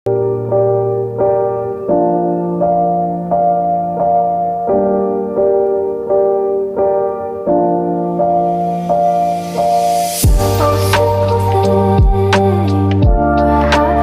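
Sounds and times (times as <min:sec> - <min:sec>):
soft piano playing slow notes: 0:00.1 - 0:14.0.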